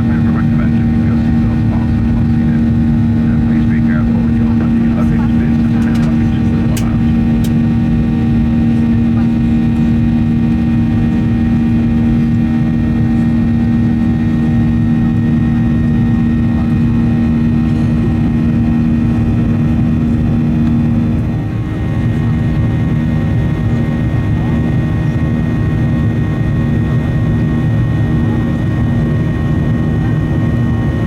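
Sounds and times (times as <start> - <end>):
jet engines droning in cabin: 0.0 - 31.0.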